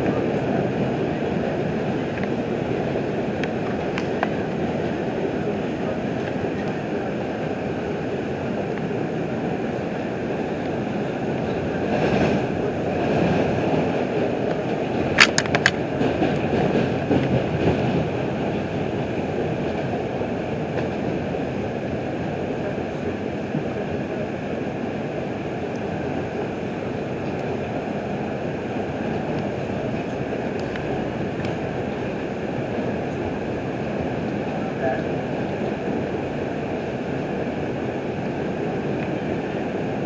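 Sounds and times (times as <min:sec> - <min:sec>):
subway car rumbling on track: 0:00.0 - 0:40.0.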